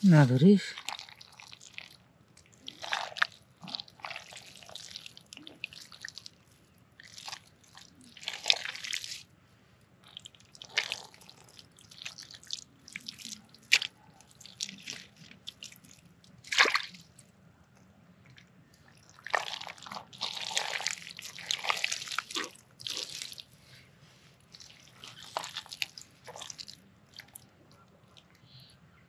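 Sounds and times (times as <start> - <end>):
mud and water squelching: 0.1 - 6.4, 7.0 - 9.3, 10.0 - 17.2, 18.2 - 23.6, 24.4 - 28.2.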